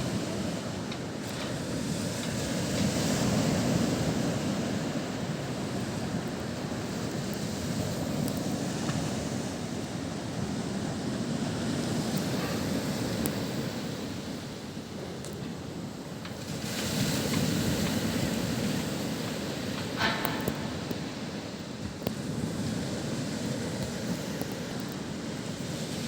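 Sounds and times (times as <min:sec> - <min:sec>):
waves washing on shore: 0:00.0 - 0:26.0.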